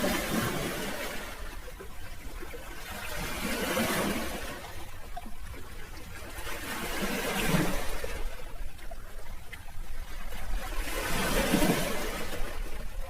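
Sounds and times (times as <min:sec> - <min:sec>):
sea waves washing in: 0:00.0 - 0:13.0.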